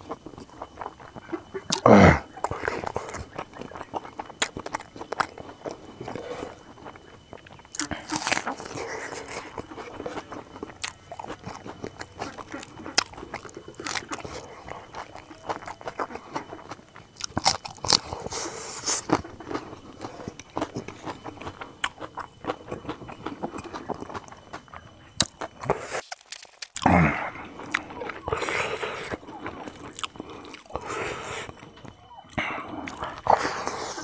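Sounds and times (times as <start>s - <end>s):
chewing and crunching food: 0.0s - 34.0s.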